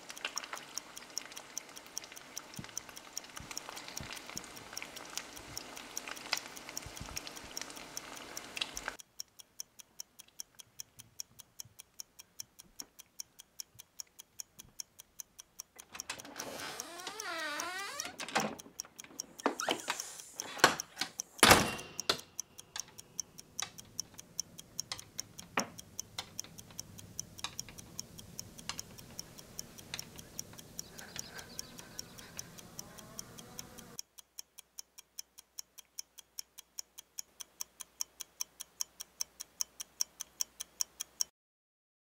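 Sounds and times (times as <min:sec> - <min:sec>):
clock ticking: 0:00.0 - 0:41.3.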